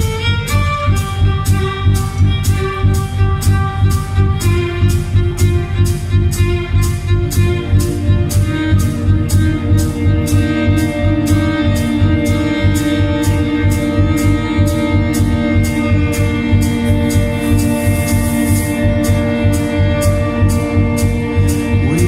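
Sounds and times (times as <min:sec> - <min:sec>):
band playing music: 0:00.0 - 0:22.0
steady drumbeat: 0:00.0 - 0:22.0.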